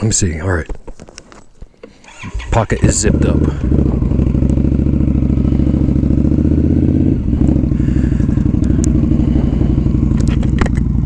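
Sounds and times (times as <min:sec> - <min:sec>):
motorcycle engine running: 0:02.1 - 0:11.0.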